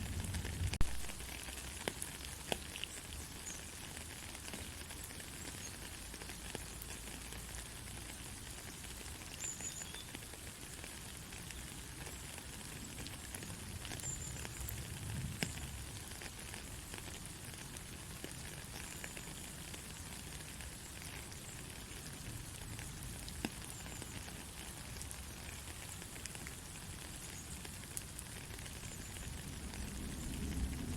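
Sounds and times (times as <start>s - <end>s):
soft rain pattering: 0.0s - 30.9s.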